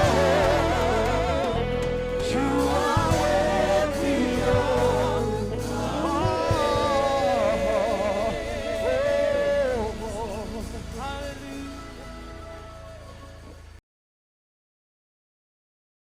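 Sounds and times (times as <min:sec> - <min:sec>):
band with steady bass: 0:00.0 - 0:13.8
gospel choir singing: 0:00.0 - 0:13.8.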